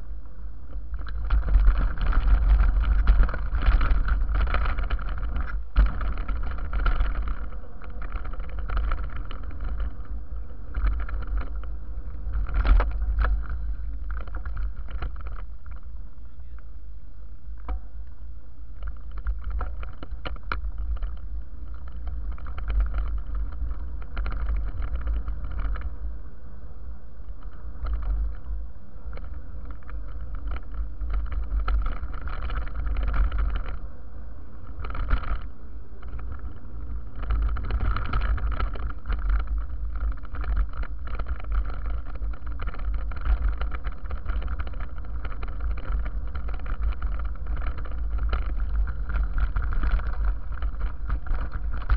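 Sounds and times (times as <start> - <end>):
bike rattles and knocks: 0.0 - 16.8, 17.4 - 51.9
bike tyres rolling on dirt: 0.0 - 51.9
wind on microphone: 0.0 - 51.9.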